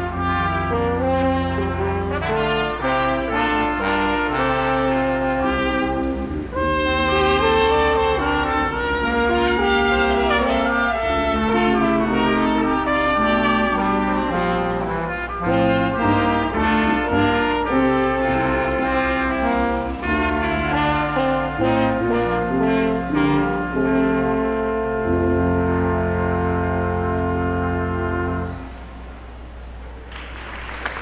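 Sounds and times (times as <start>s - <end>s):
brass ensemble playing: 0.0s - 29.5s.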